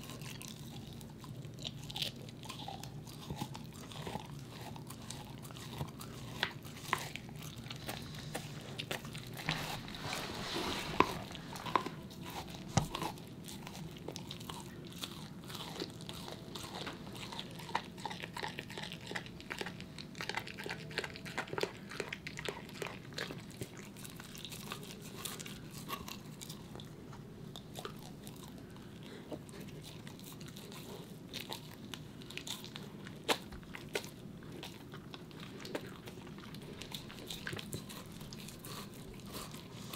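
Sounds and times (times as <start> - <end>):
dog gnawing on bone: 0.0 - 39.9.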